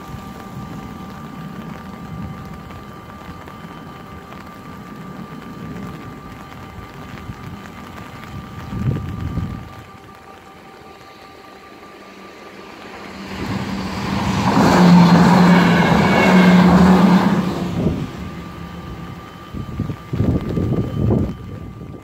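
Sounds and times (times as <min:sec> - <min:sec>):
electric train passing: 0:00.0 - 0:22.0
level crossing warning bell: 0:00.0 - 0:22.0.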